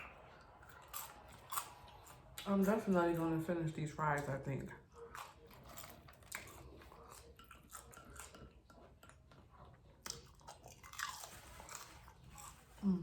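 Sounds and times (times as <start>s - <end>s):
person chewing food: 0.0s - 2.9s, 4.2s - 13.0s.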